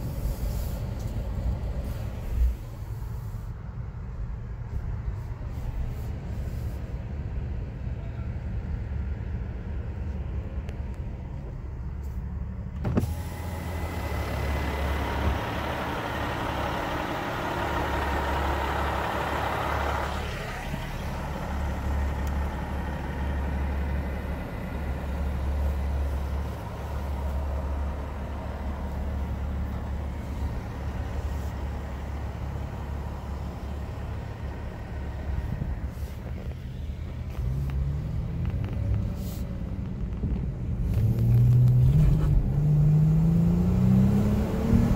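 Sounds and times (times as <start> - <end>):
car engine and tyres rumbling: 0.0 - 44.9
outside traffic noise: 0.0 - 44.9.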